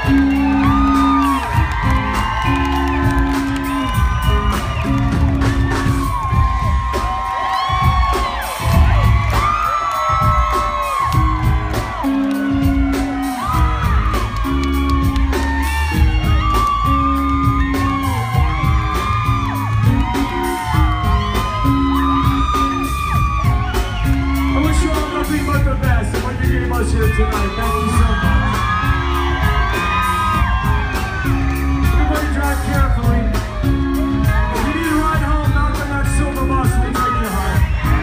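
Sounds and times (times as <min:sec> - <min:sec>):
crowd whooping and shouting: 0:00.0 - 0:38.0
live rock band playing: 0:00.0 - 0:38.0.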